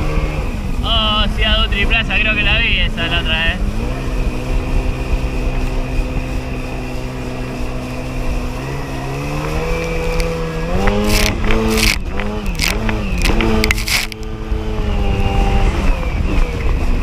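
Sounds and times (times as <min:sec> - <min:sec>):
personal watercraft engine: 0:00.0 - 0:17.0.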